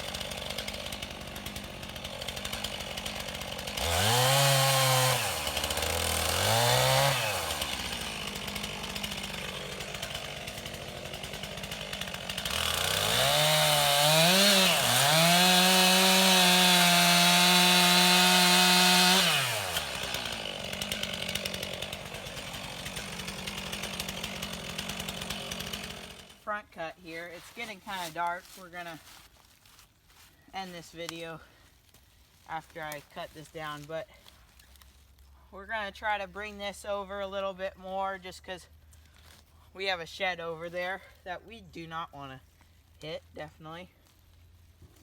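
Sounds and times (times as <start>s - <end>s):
chainsaw idling and revving: 0.0s - 45.0s.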